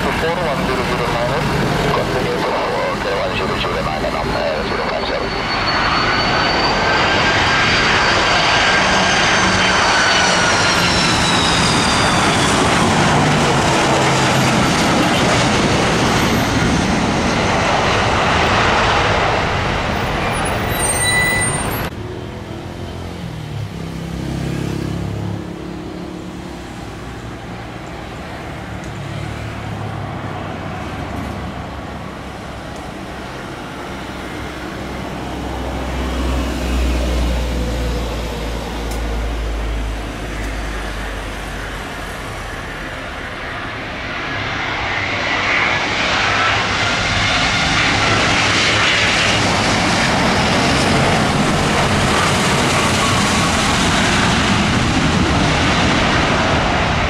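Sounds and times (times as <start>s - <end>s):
jet airliner flying low: 0.0s - 57.0s
road traffic: 0.0s - 57.0s
truck engines: 0.0s - 57.0s.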